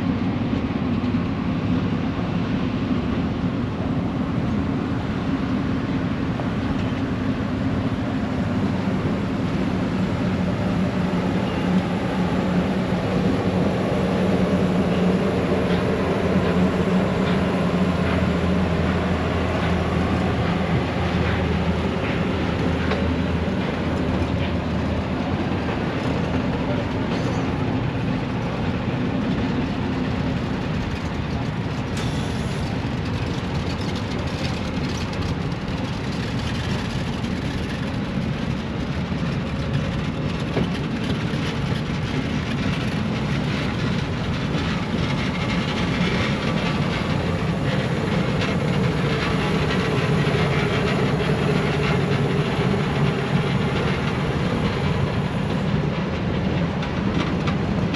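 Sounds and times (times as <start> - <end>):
steel wheels rumbling on rail: 0.0 - 57.9
train cars rolling past: 0.0 - 57.9.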